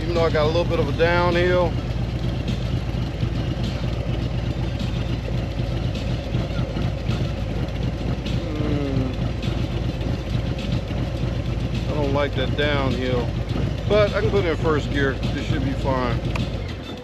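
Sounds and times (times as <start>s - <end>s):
motorcycle engine droning: 0.0s - 17.0s.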